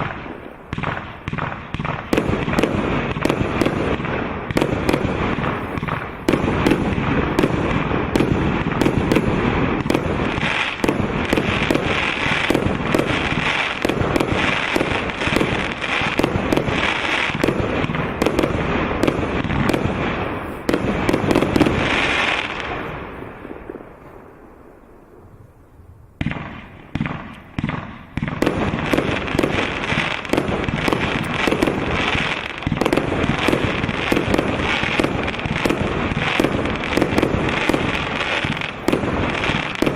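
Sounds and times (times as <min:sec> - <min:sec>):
fireworks bangs and crackle: 0:00.0 - 0:25.6, 0:26.2 - 0:39.9.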